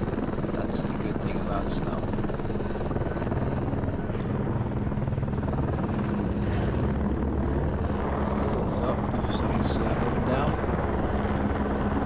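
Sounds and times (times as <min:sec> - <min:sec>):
helicopter rotor beat: 0:00.0 - 0:12.0
low engine hum: 0:00.0 - 0:12.0.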